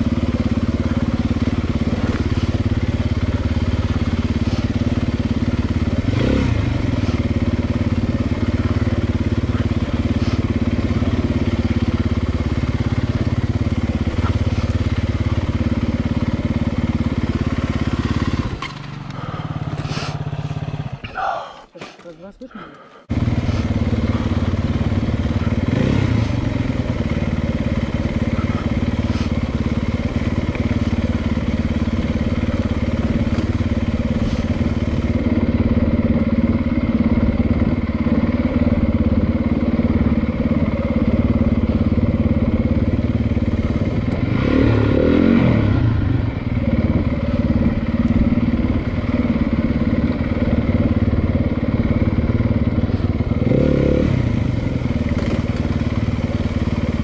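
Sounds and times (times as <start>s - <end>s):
dirt bike engine running: 0.0s - 21.6s, 22.5s - 57.0s.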